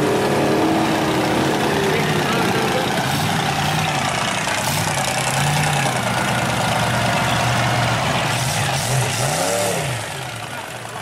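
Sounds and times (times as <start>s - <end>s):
truck engines running: 0.0s - 11.0s.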